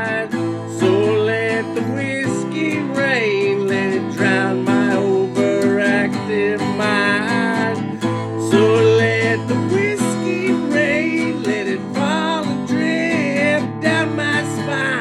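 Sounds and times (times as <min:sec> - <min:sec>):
acoustic guitar country song: 0:00.0 - 0:15.0
sliding guitar melody: 0:00.0 - 0:15.0.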